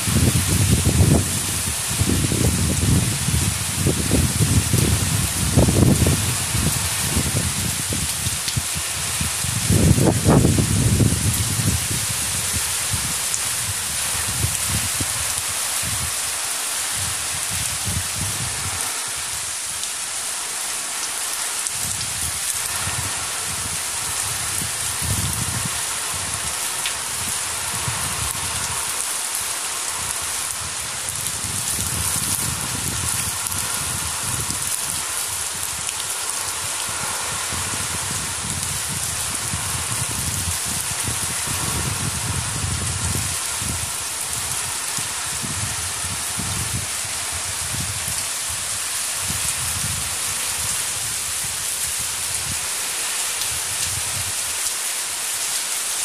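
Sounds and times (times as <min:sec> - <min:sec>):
heavy rain on rooftops: 0:00.0 - 0:56.0.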